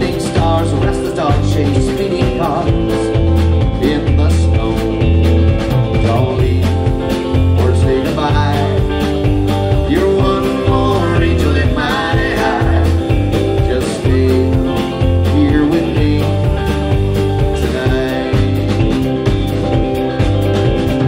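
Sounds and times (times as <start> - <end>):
bass notes: 0.0 - 21.0
electric guitar: 0.0 - 21.0
live band playing: 0.0 - 21.0
steady drum beat: 0.0 - 21.0.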